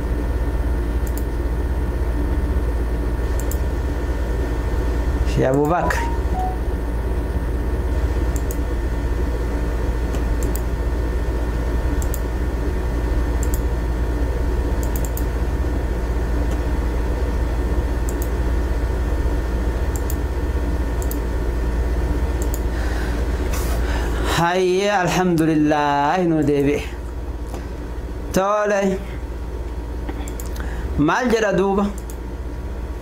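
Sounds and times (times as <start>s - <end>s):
electrical hum and hiss: 0.0s - 33.0s.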